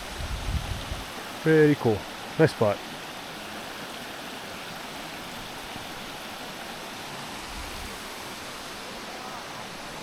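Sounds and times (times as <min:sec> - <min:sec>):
creek and waterfall rushing: 0:00.0 - 0:10.0.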